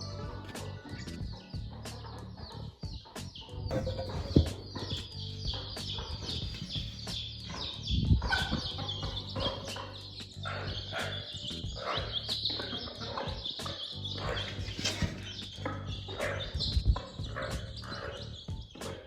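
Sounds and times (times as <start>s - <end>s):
chickens clucking and chirping: 0.0s - 19.0s.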